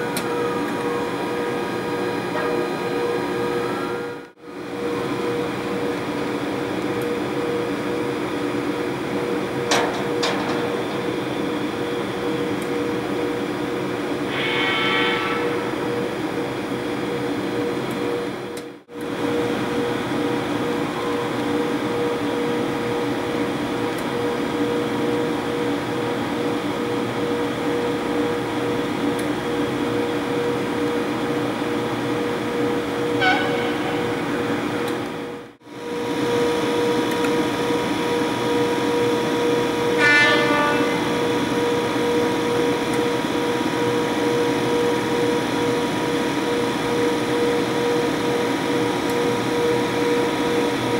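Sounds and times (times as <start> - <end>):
locomotive humming and whining: 0.0 - 50.9.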